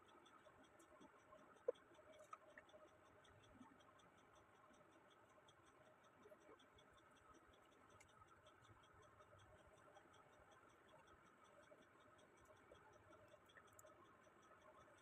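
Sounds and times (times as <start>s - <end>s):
faint rapid ticking: 0.0s - 15.0s.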